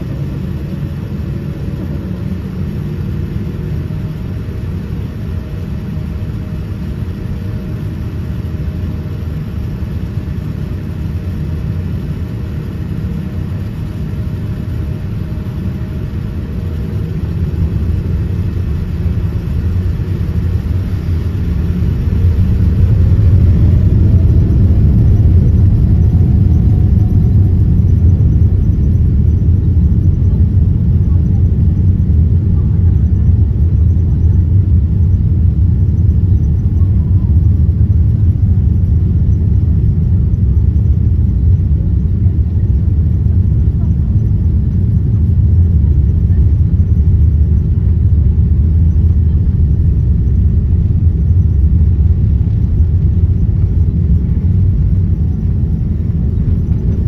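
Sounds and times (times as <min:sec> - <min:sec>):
jet engine low rumble: 0:00.0 - 0:57.0
jet engine whine: 0:00.0 - 0:57.0.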